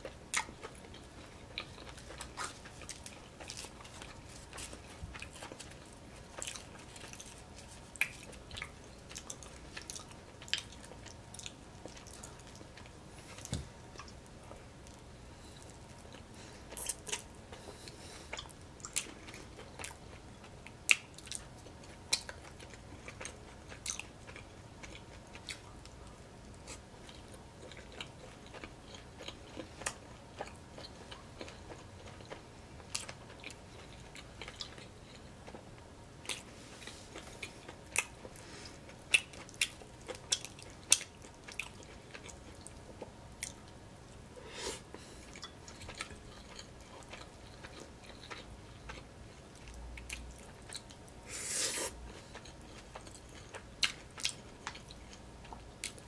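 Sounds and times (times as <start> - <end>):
chewing and biting food: 0.0 - 43.8, 44.9 - 51.2, 52.0 - 56.0.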